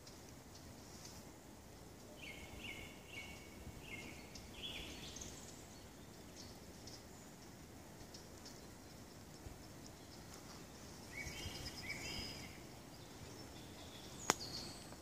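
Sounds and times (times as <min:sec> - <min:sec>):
low outdoor noise: 0:00.0 - 0:15.0
songbird singing: 0:00.0 - 0:15.0.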